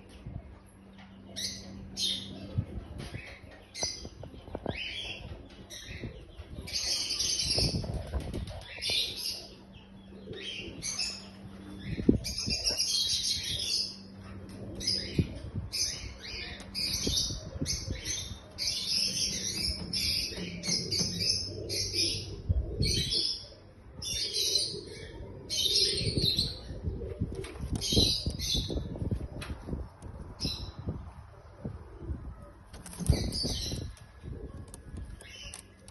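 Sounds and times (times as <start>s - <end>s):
birds chirping and twittering: 0.0s - 35.9s.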